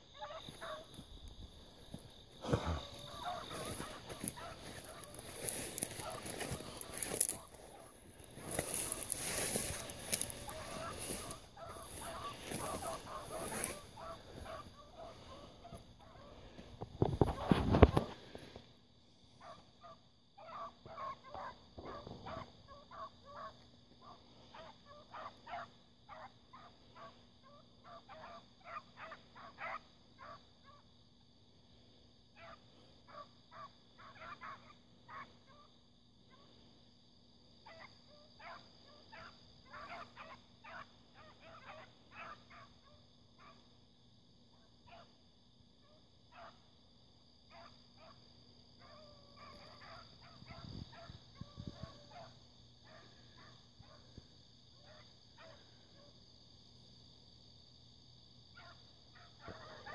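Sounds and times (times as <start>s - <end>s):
distant hounds baying: 0.0s - 18.2s, 19.3s - 31.0s, 32.3s - 36.7s, 37.5s - 56.3s, 58.5s - 59.9s.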